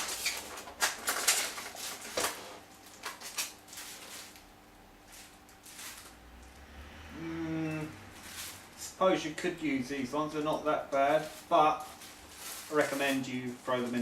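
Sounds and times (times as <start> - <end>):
plastic packaging rustling: 0.0 - 6.4, 7.7 - 14.0.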